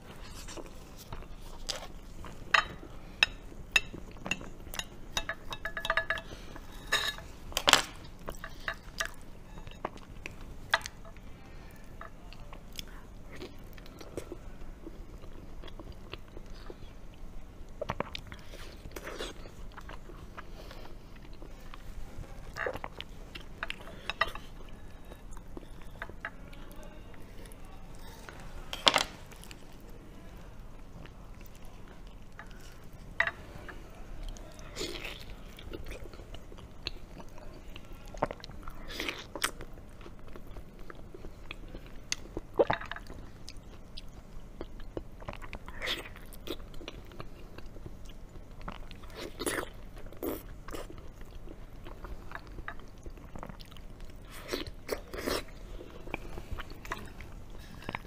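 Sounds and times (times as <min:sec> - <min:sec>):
wet chewing and mouth sounds: 0:00.0 - 0:26.4, 0:30.7 - 0:58.0.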